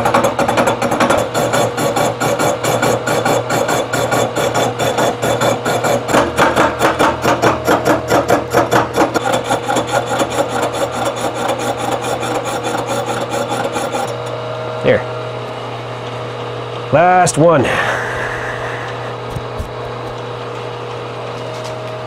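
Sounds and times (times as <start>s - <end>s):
spindle motor hum: 0.0s - 22.0s.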